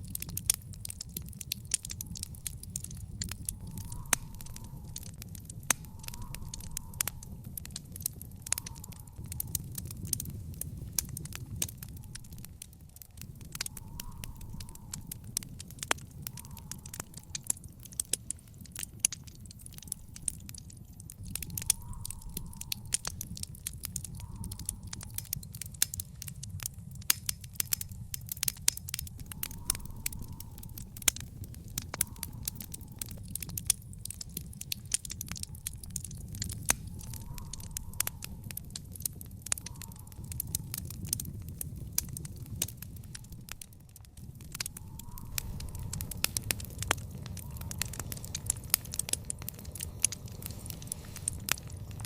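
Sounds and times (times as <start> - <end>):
low rumble of fire: 0.0 - 52.0
wood fire crackling and popping: 0.0 - 52.0.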